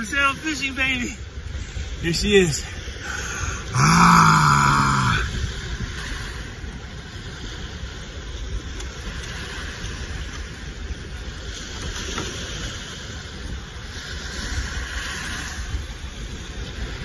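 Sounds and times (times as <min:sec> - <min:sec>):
wind rumbling on microphone: 0:00.0 - 0:03.8, 0:04.4 - 0:17.0
ocean surf washing ashore: 0:00.0 - 0:17.0.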